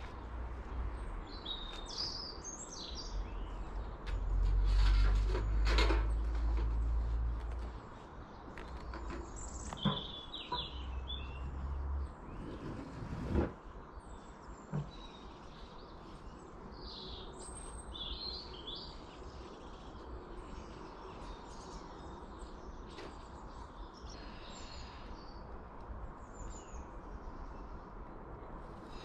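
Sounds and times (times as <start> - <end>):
birds chirping: 0.0 - 5.4, 6.1 - 13.0, 13.6 - 28.0.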